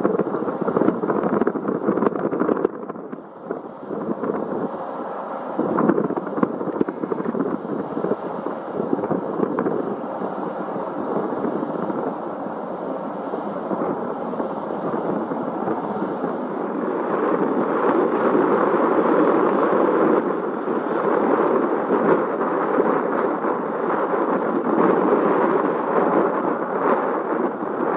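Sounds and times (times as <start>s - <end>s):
aircraft engine rumble: 0.0s - 27.9s.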